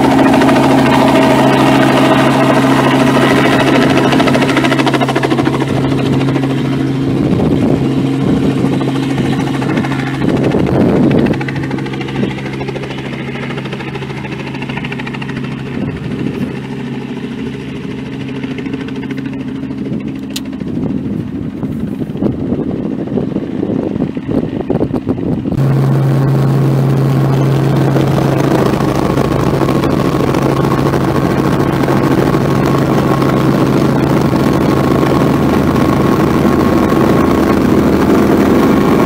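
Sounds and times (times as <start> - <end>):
helicopter engine and rotor drone: 0.0 - 39.0.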